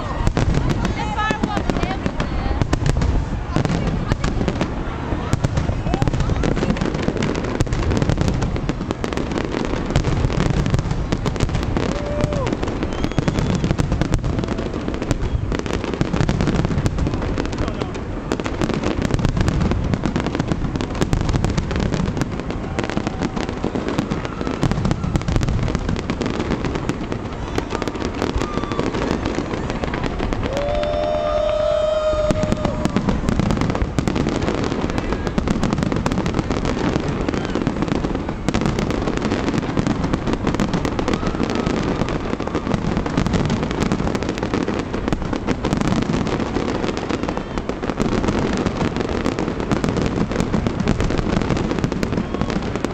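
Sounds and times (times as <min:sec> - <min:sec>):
fireworks bursts and crackling: 0:00.0 - 0:52.9.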